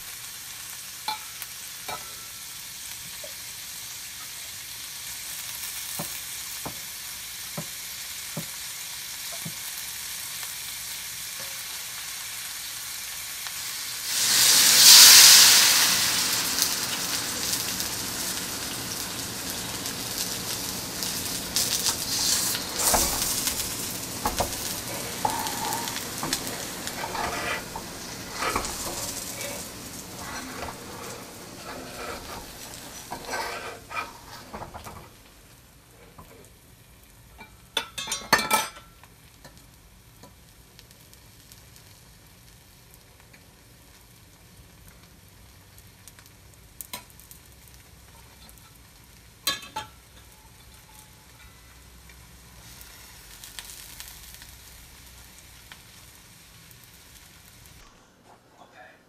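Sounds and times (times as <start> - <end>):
food sizzling in a pan: 0.0 - 58.1.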